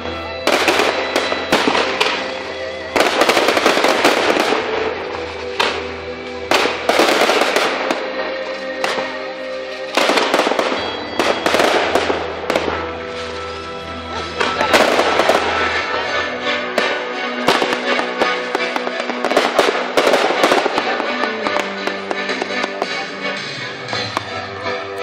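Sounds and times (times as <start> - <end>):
fireworks bursting and crackling: 0.0 - 25.0
music: 0.0 - 25.0.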